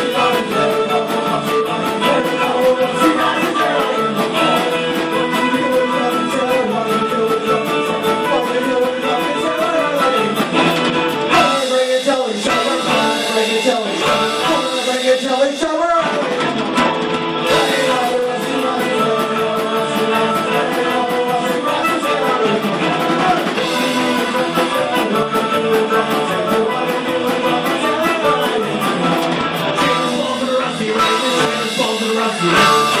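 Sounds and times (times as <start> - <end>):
person singing: 0.0 - 16.5, 17.4 - 33.0
bass guitar: 0.0 - 33.0
drums: 0.0 - 33.0
electric guitars: 0.0 - 33.0.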